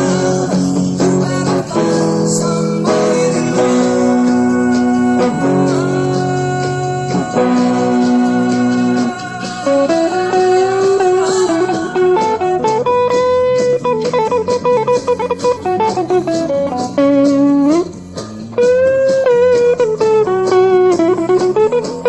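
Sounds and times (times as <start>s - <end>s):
backing track with drum beat: 0.0s - 22.0s
electric guitar lead with bends: 0.0s - 22.0s.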